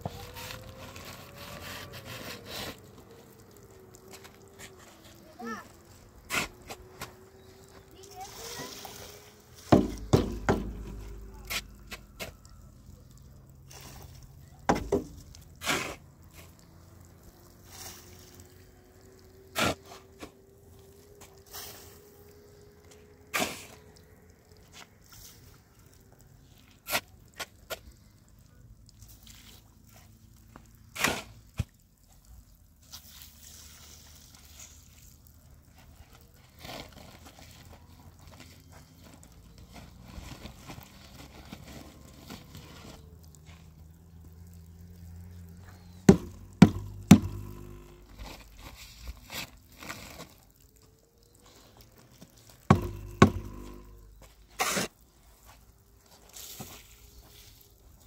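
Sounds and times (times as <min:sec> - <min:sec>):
water splashing and dripping: 0:00.0 - 0:58.0.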